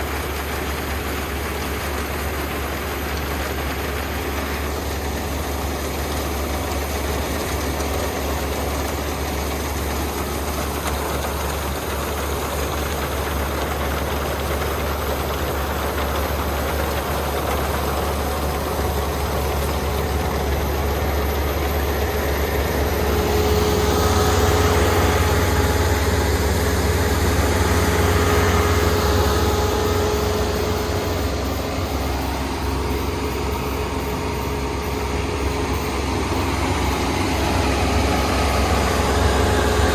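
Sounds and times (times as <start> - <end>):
combine harvester running: 0.0 - 39.9
steady whine: 0.0 - 39.9.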